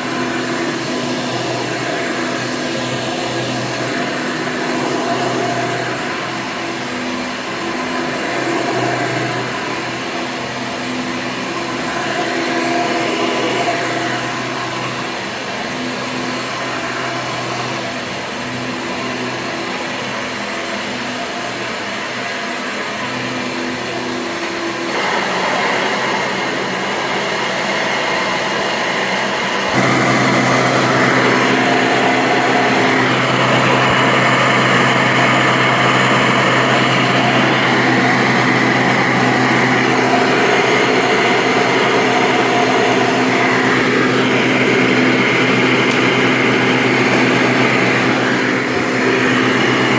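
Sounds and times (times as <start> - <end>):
upright vacuum running: 0.0 - 49.9.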